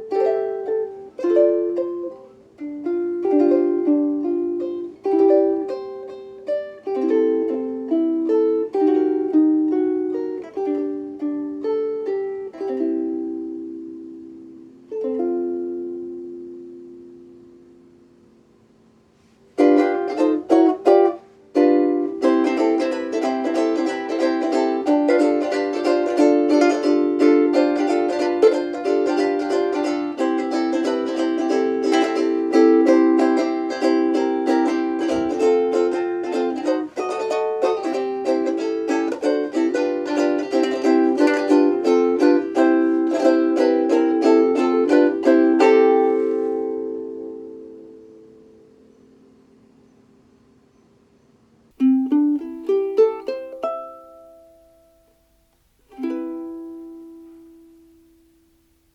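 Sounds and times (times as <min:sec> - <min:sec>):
ukulele playing: 0:00.0 - 0:50.3, 0:51.7 - 0:58.9
stopped ukulele chords: 0:00.0 - 0:50.6, 0:51.7 - 0:58.9.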